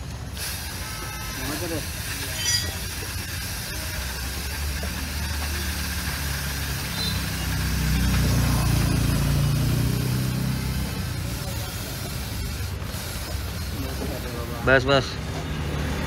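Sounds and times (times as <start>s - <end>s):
aerosol can hissing: 0.0s - 15.9s
motorcycle engine idling: 0.6s - 15.6s.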